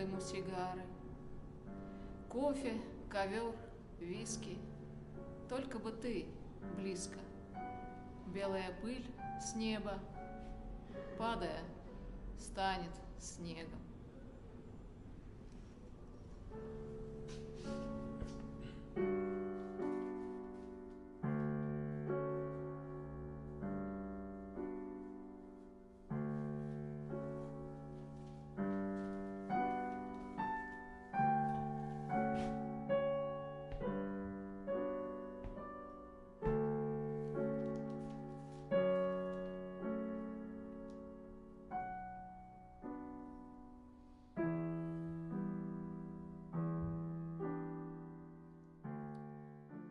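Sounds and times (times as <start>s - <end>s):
solo piano piece: 0.0s - 12.4s, 13.9s - 49.9s.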